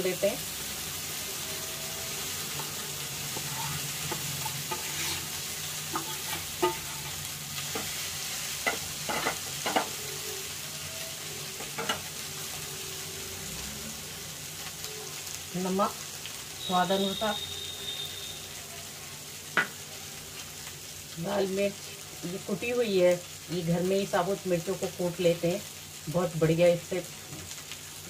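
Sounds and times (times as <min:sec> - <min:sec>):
peas sizzling in hot oil: 0:00.0 - 0:28.0.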